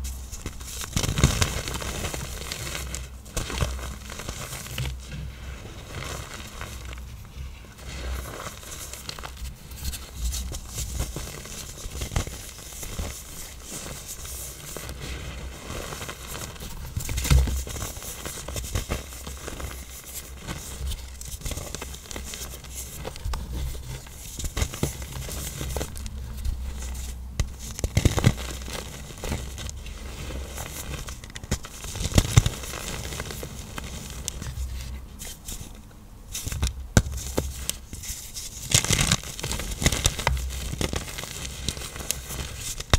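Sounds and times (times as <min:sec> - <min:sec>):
powder blocks crunching and crumbling: 0:00.4 - 0:07.1, 0:07.7 - 0:34.9, 0:38.5 - 0:42.9.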